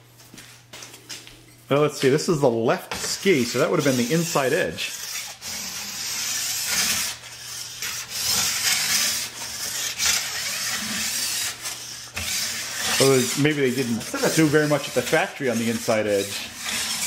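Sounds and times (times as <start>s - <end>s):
file rasping on steel edge: 2.9s - 17.0s.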